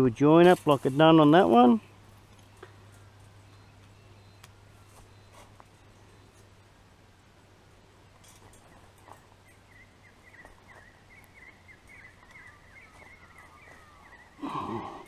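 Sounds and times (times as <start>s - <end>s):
small birds twittering: 1.3s - 6.9s, 7.7s - 15.0s.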